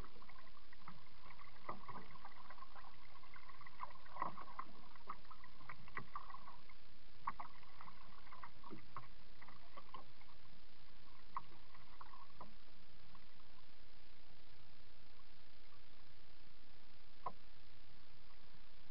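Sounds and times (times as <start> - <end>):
muffled water splashes: 0.0 - 18.9.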